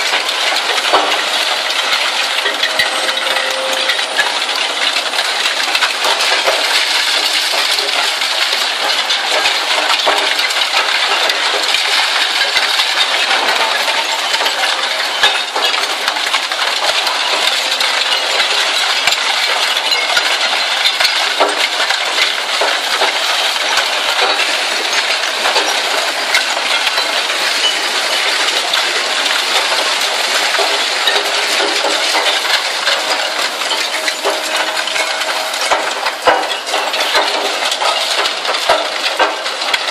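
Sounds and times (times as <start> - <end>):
shredder clattering scrap metal: 0.0 - 39.9.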